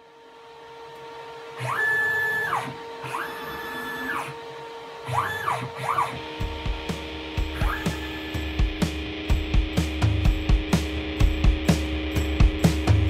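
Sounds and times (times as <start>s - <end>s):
steady machine hum: 0.0s - 13.0s
stepper motor whine: 0.0s - 13.0s.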